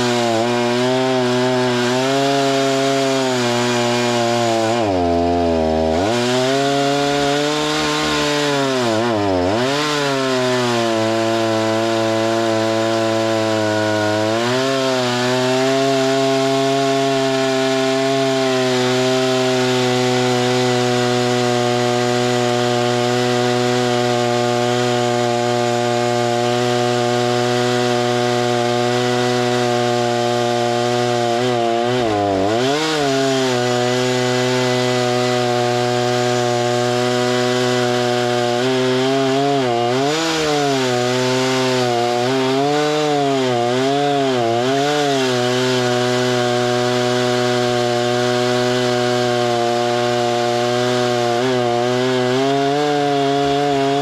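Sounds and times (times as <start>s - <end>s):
chainsaw running at high revs: 0.0s - 54.0s.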